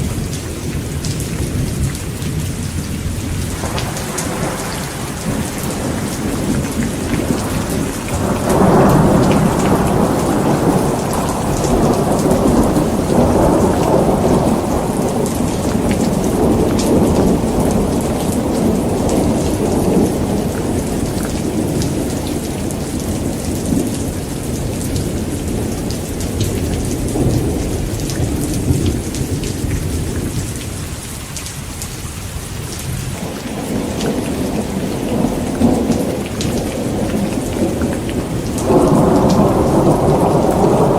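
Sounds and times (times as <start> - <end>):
rolling rumble of thunder: 0.0 - 31.2, 32.7 - 40.9
heavy rain pouring: 0.0 - 40.9.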